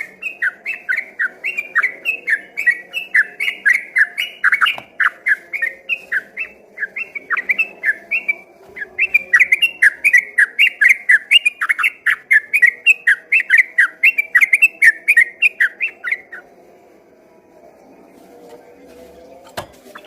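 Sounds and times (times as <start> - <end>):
bird singing whistled notes: 0.0 - 16.4.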